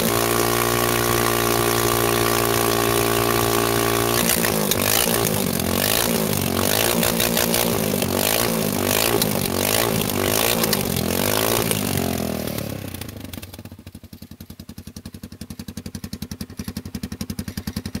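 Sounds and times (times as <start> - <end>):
motorcycle engine idling: 0.0 - 18.0
motorcycle engine revving: 0.0 - 18.0.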